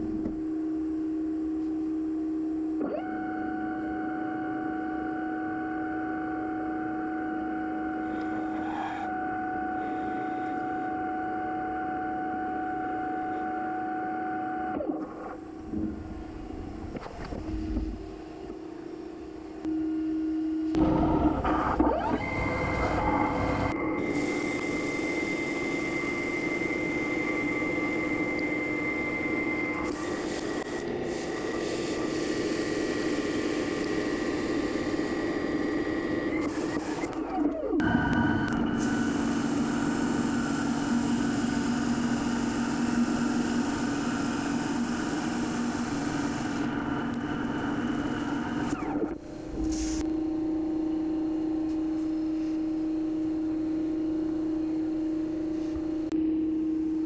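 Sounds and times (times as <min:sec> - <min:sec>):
machine spindle whine: 0:00.0 - 0:57.0.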